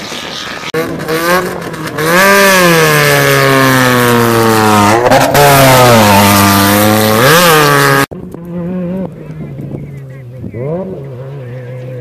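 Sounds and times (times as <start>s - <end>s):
race vehicle engine revving: 0.7s - 12.0s.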